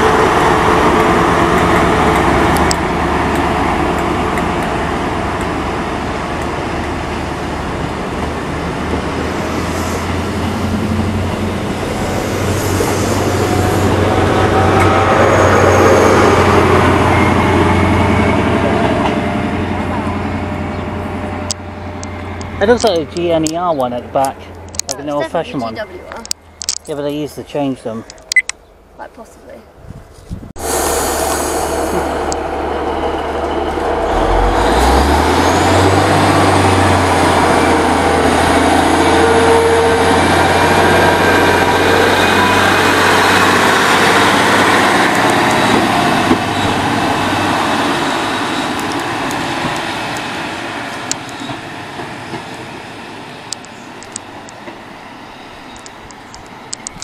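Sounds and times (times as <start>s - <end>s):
diesel train engines revving: 0.0s - 29.3s, 30.6s - 57.0s.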